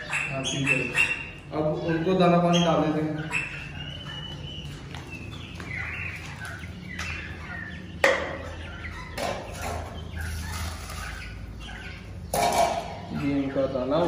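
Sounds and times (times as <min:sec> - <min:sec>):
young fowl chirping: 0:00.0 - 0:14.0.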